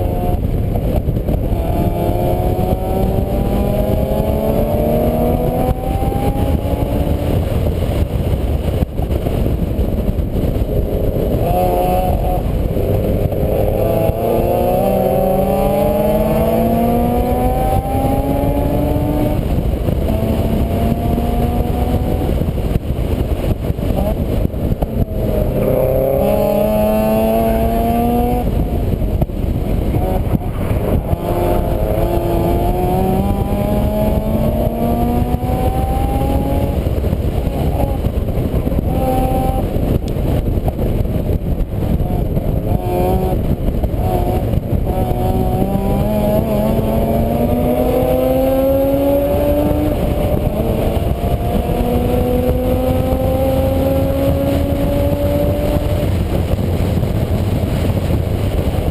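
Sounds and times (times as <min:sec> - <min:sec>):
vehicle engine accelerating: 0:00.0 - 0:58.9
wind rumble on microphone: 0:00.0 - 0:58.9.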